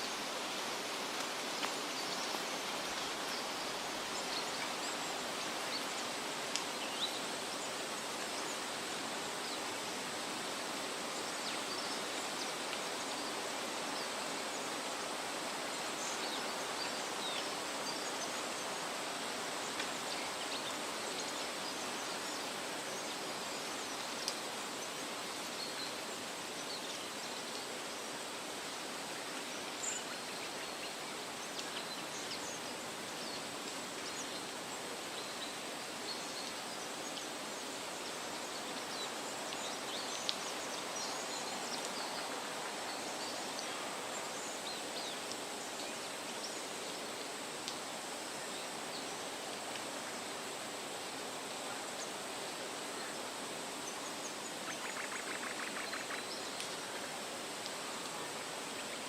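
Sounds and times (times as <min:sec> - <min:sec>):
wind rustling leafy trees: 0:00.0 - 0:59.0.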